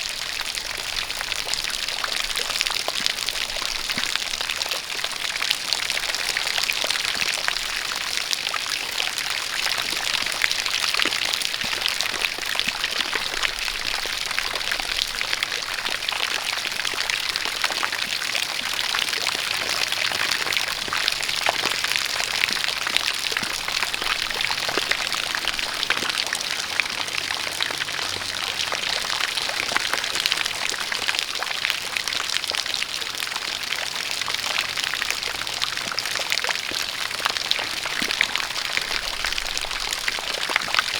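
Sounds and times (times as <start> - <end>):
rain falling: 0.0 - 40.9
water pouring and splashing: 0.0 - 40.9.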